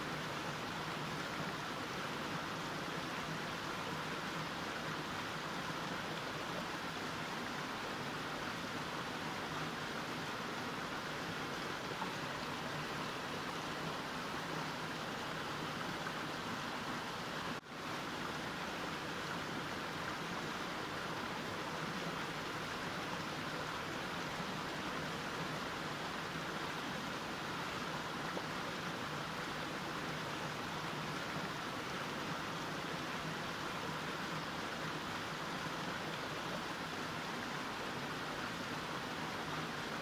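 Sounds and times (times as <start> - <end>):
mountain stream flowing: 0.0 - 40.0.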